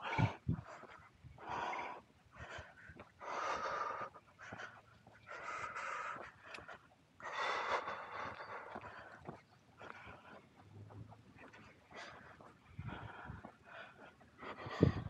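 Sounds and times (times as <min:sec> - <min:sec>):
heavy breathing: 0:00.0 - 0:10.7, 0:11.5 - 0:15.0.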